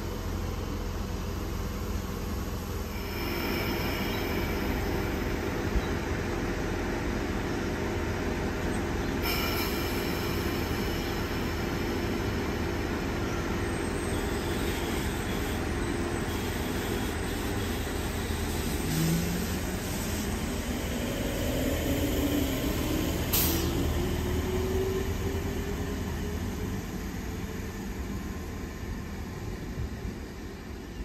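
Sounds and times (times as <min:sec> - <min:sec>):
electric train rumbling: 0:00.0 - 0:31.0.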